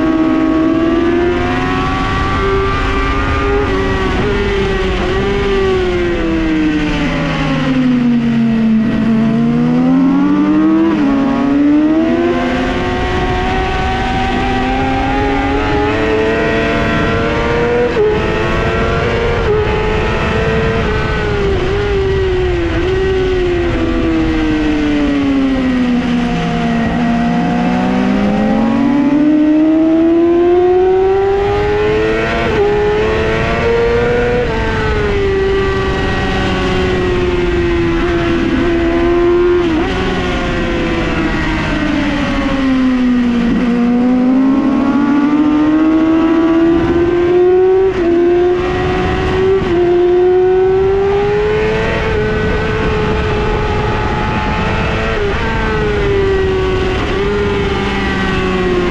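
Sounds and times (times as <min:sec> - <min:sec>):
motorcycle engine at high revs: 0:00.0 - 0:58.9.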